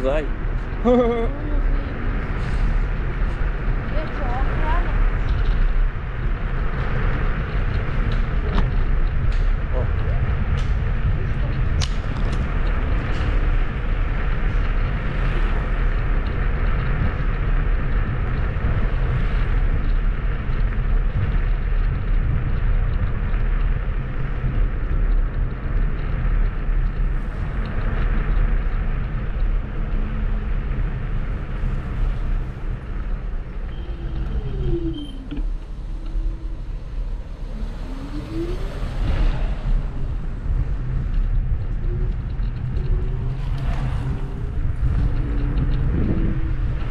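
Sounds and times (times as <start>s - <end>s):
electric scooter whine: 0.0s - 46.9s
wind and tyre rumble: 0.0s - 46.9s.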